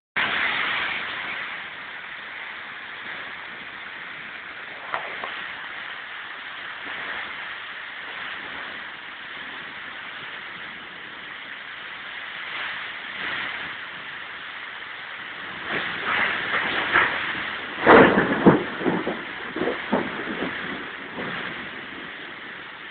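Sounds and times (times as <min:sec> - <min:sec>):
heavy rain hissing: 0:00.2 - 0:22.9.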